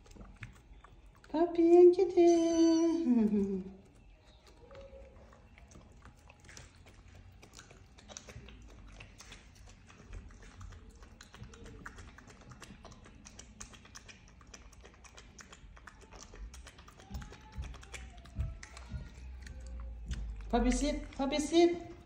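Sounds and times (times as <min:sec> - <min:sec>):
small animals clicking and tapping: 0:00.0 - 0:22.0.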